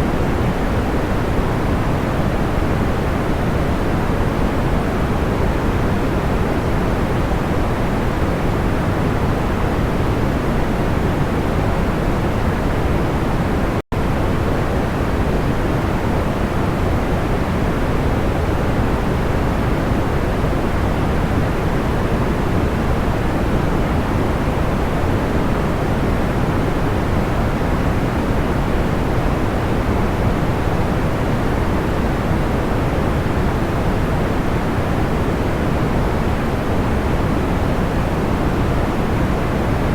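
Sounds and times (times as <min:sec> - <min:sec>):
low white noise rush: 0:00.0 - 0:39.9.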